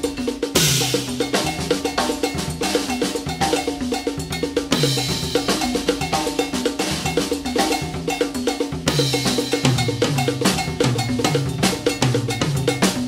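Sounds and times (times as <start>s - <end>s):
cowbell struck with sticks: 0.0s - 13.0s.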